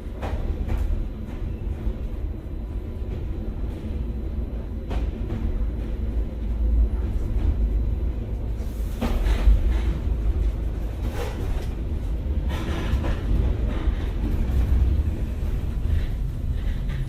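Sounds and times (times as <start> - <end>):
deep rumble: 0.0 - 17.0.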